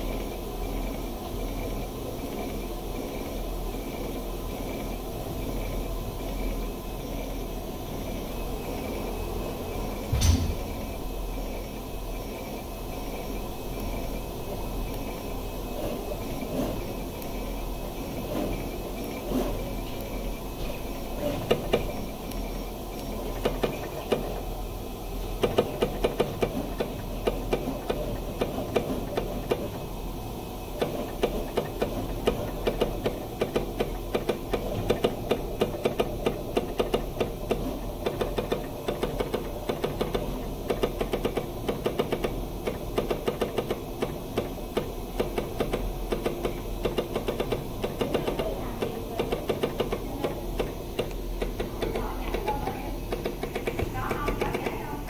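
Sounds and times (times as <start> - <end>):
low mains hum: 0.0 - 55.0.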